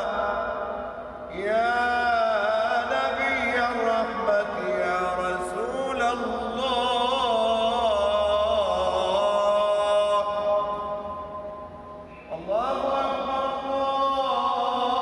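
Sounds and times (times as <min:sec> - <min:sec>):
man chanting: 0:00.0 - 0:11.6, 0:12.2 - 0:15.0.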